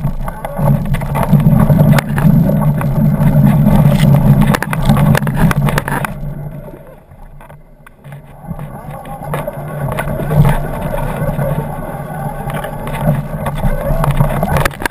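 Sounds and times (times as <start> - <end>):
motorcycle engine: 0.0 - 14.9.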